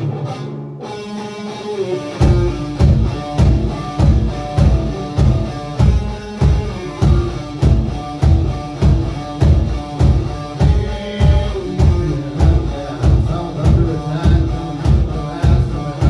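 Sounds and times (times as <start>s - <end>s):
guitar riff: 0.0s - 16.0s
rock band playing: 0.0s - 16.0s
drums and bass beat: 2.2s - 16.0s.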